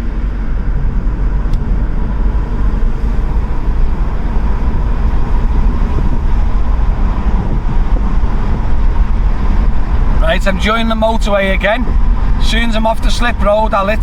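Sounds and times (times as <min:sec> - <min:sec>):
engine and road noise: 0:00.0 - 0:14.0
wind buffeting through car windows: 0:00.0 - 0:14.0.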